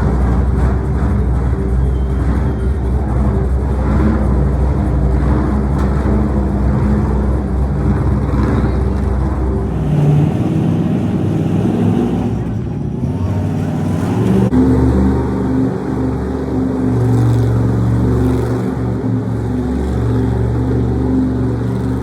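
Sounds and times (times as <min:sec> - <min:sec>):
truck engine running loud: 0:00.0 - 0:22.0.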